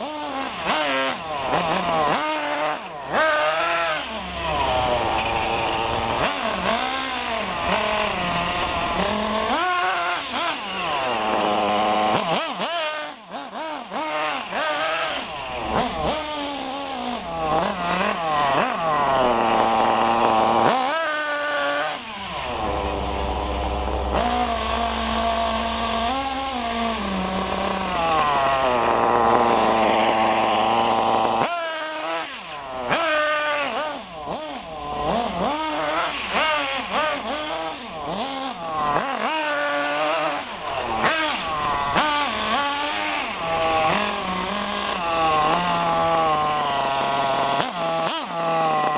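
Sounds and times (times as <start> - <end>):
radio-controlled car engine revving: 0.0 - 48.9.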